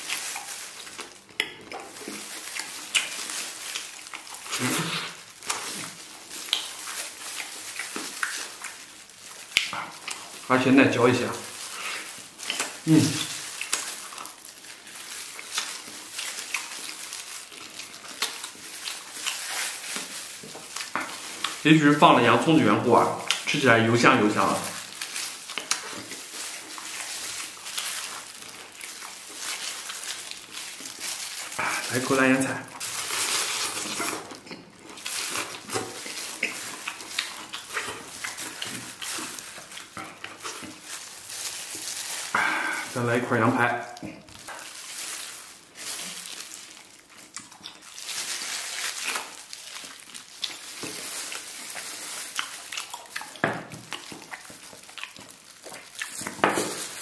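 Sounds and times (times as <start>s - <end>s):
close chewing and biting: 0.0s - 43.1s, 43.7s - 57.0s.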